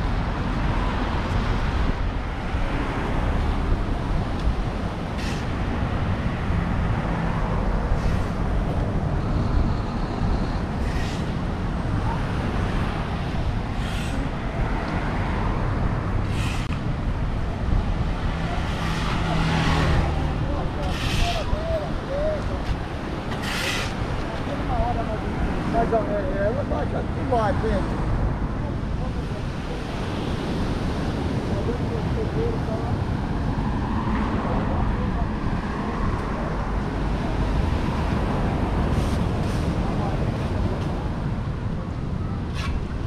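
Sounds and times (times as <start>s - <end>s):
traffic noise: 0.0s - 43.0s.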